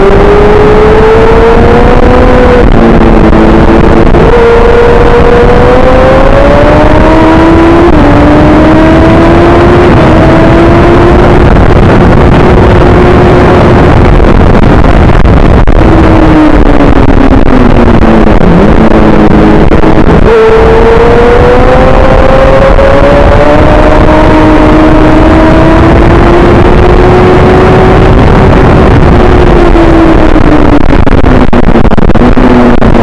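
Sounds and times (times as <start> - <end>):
racing motorcycle engine revving: 0.0 - 33.0
rushing wind noise: 0.0 - 33.0.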